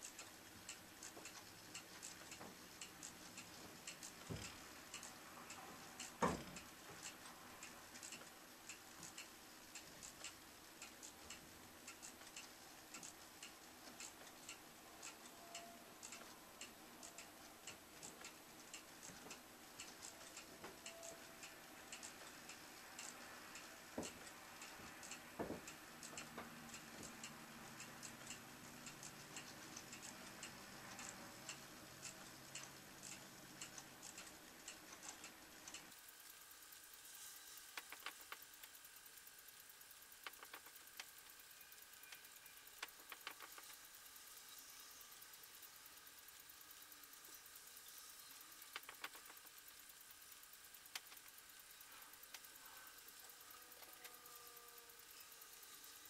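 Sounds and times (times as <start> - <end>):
clock ticking faintly: 0.0 - 56.0.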